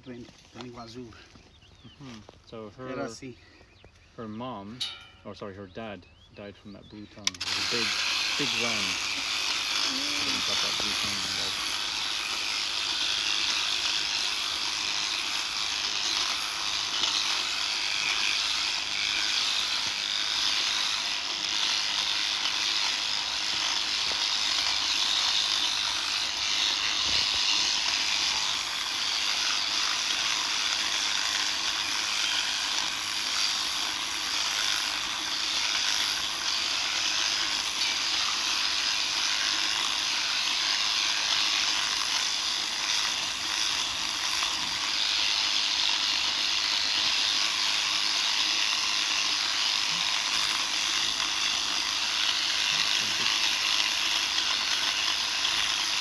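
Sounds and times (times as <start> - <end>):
electric shearing clippers buzzing: 7.2 - 56.0.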